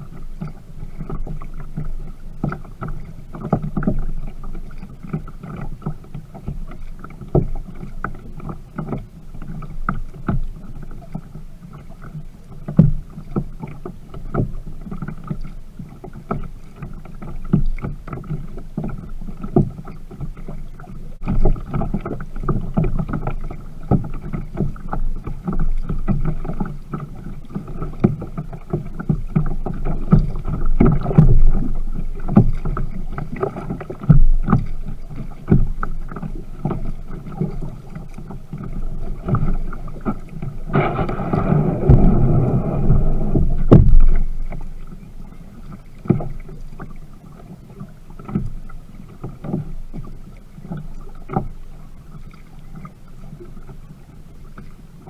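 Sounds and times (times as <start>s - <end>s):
paddle knocks and splashes: 0.0s - 54.8s
water sloshing against kayak hull: 0.0s - 55.0s.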